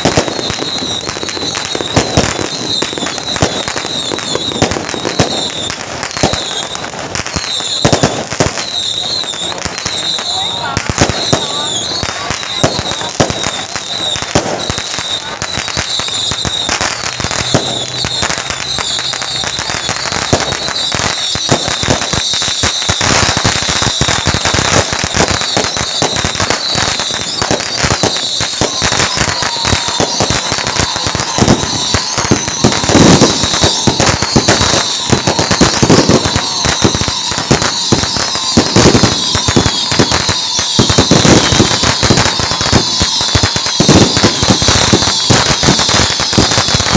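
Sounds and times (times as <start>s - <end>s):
firecrackers popping: 0.0s - 46.9s.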